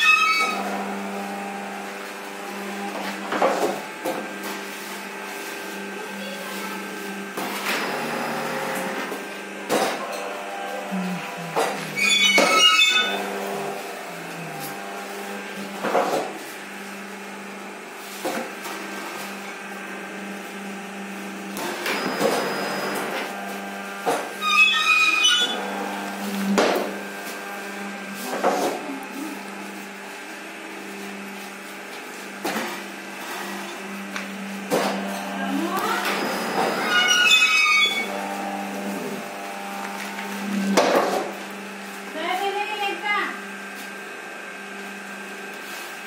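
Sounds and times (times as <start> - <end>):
machine motor hum: 0.0 - 46.0.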